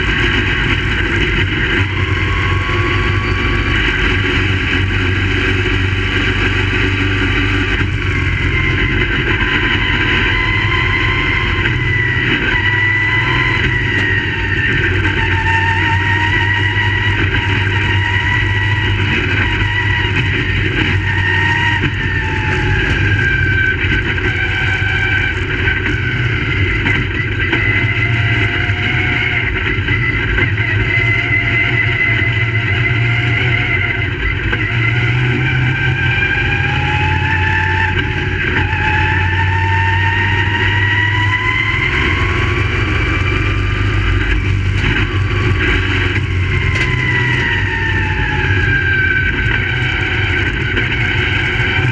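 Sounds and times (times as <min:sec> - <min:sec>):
race car engines: 0:00.0 - 0:51.9.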